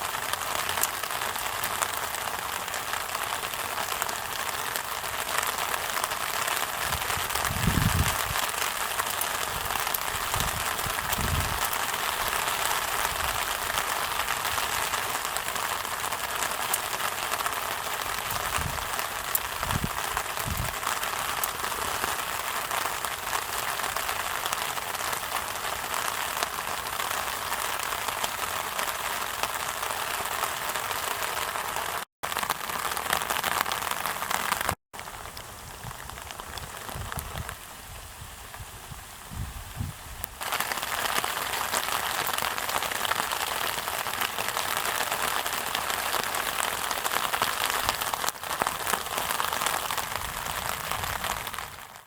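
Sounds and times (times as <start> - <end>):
rain pattering on surfaces: 0.0 - 38.7, 40.2 - 52.0.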